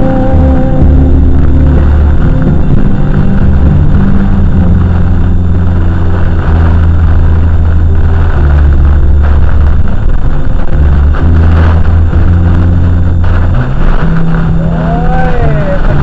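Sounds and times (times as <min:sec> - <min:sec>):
storm wind buffeting a car: 0:00.0 - 0:16.0.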